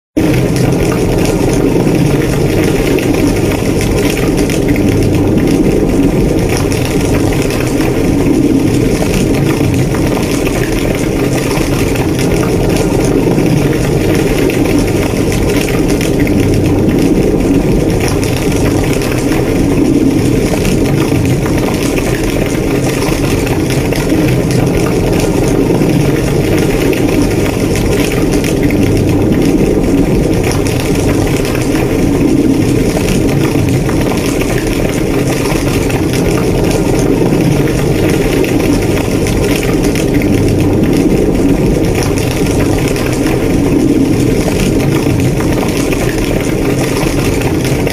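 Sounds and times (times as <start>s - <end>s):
fire crackling: 0.2s - 47.9s
fire roaring: 0.2s - 47.9s.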